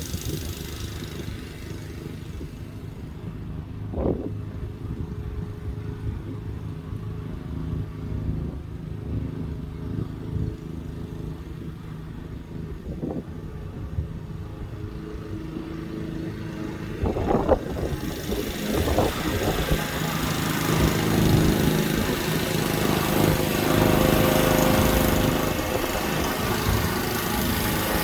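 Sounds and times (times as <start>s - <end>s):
lawn mower engine running: 0.0s - 12.8s, 14.3s - 28.0s.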